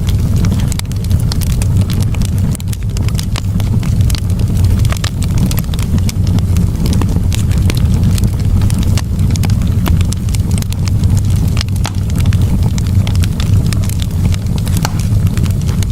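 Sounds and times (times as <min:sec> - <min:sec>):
campfire wood crackling and popping: 0:00.0 - 0:15.9
low fire rumble: 0:00.0 - 0:15.9.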